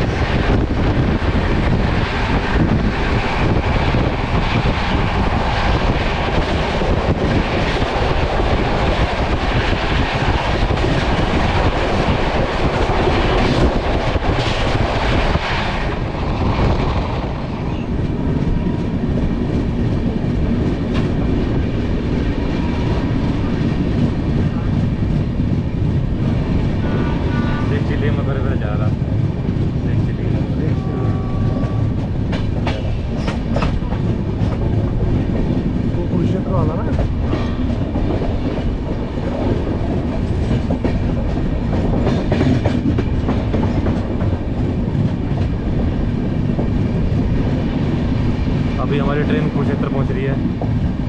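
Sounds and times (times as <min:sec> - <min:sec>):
passenger train rushing and rumbling: 0:00.0 - 0:51.0.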